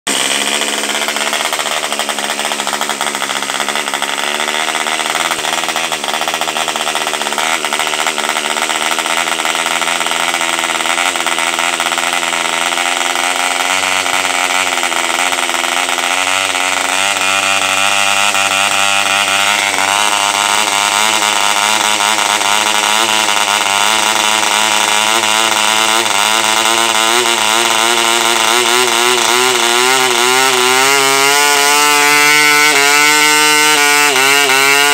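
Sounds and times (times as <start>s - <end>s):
model engine running fast: 0.0s - 34.9s.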